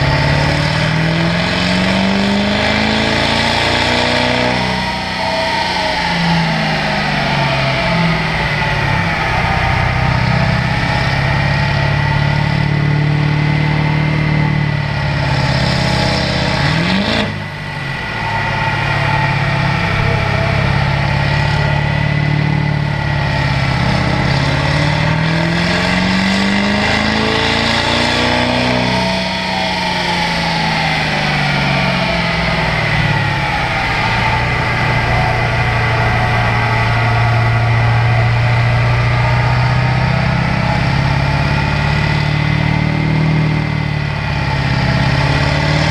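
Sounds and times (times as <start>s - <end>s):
diesel engine running hard: 0.0s - 45.9s.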